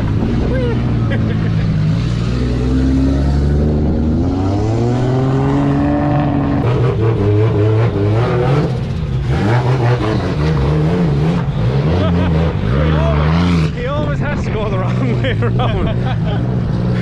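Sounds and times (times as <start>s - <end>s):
car engine revving hard: 0.0s - 13.8s.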